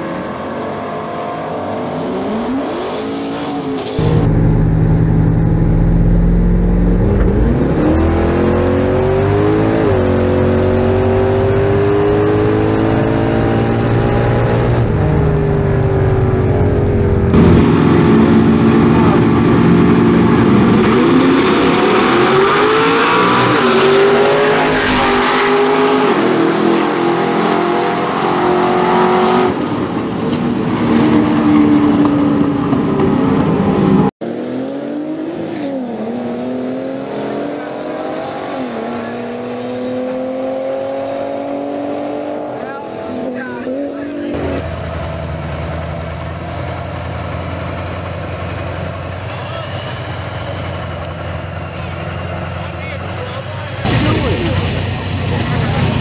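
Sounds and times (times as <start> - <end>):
race car engine revving: 0.3 - 45.2, 53.8 - 56.0.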